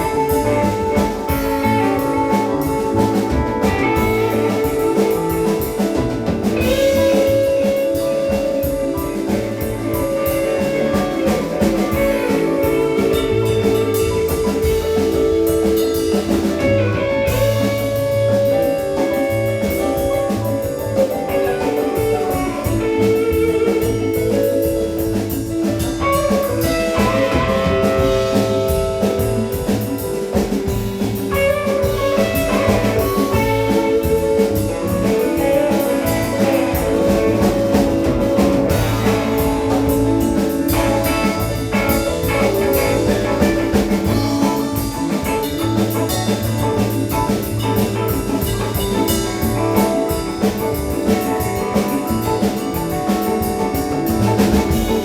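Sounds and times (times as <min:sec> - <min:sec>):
drum kit groove: 0:00.0 - 0:55.0
electric guitar bending long notes: 0:00.0 - 0:55.0.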